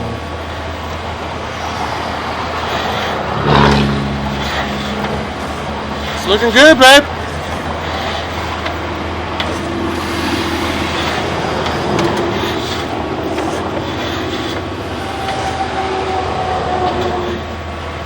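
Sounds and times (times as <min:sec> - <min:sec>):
mechanical rumble with hum: 0:00.0 - 0:15.8
faint wavering drone: 0:00.0 - 0:17.3.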